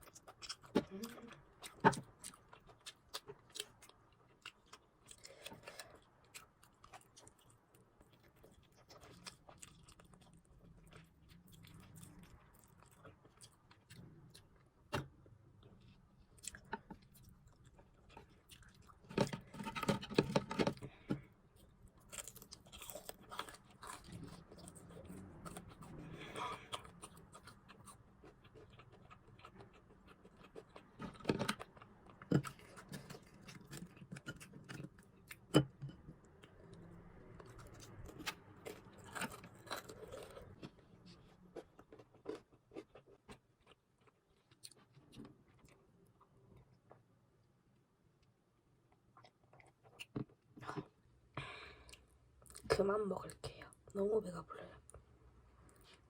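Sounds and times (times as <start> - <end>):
chewing crispy food: 0.0 - 47.5, 48.2 - 52.8, 54.8 - 56.0.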